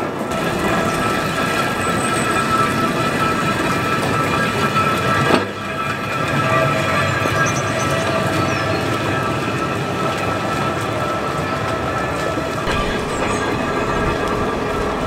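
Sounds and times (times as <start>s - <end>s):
tram wheels grinding on rails: 0.0s - 15.0s.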